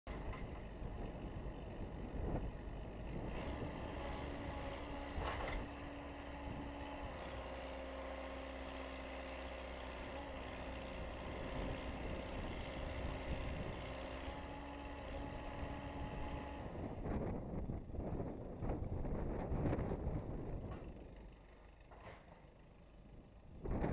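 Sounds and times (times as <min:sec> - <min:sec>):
backhoe engine running: 0:00.1 - 0:23.9.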